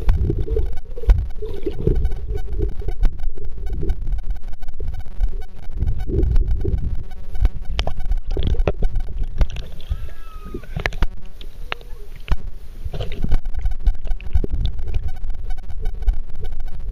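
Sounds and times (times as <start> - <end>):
electronic buzzing: 0.0 - 16.9
underwater rumbling and gurgling: 0.0 - 16.9.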